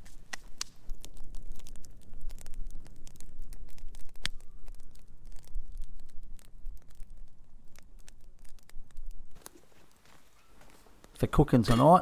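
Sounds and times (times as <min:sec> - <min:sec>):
campfire crackling and popping: 0:00.0 - 0:11.4.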